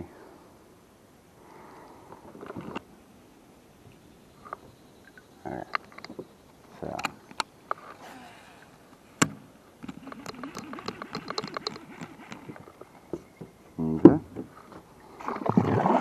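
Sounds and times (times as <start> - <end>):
rustle: 0.0 - 16.0
water noise: 1.5 - 16.0.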